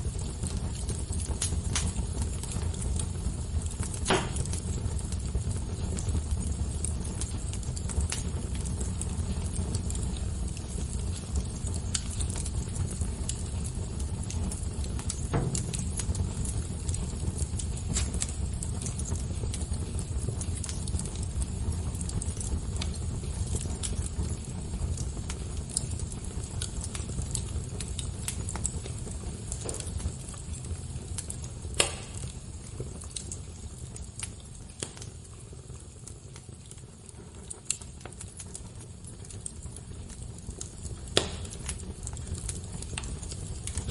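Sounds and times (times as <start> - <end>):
fire snapping and popping: 0.0 - 43.9
wood fire crackling: 0.0 - 43.9.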